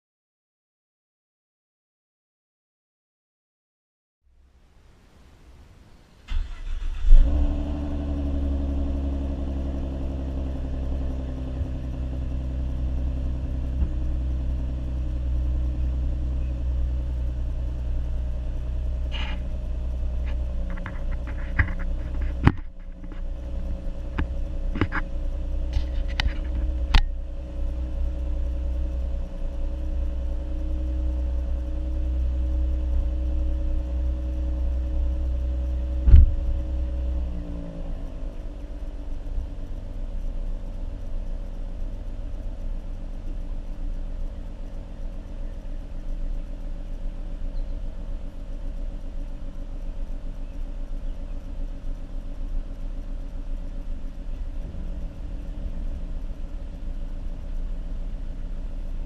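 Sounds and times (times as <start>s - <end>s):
car engine starting and idling: 4.4s - 59.0s.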